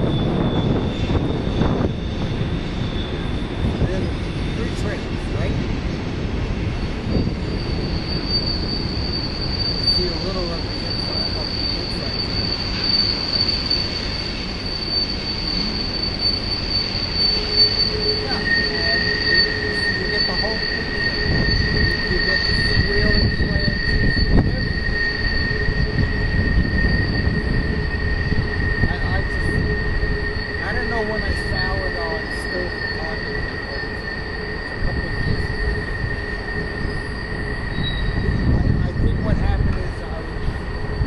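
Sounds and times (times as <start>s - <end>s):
train rumble: 0.0s - 41.0s
train wheels squealing on rails: 0.0s - 41.0s.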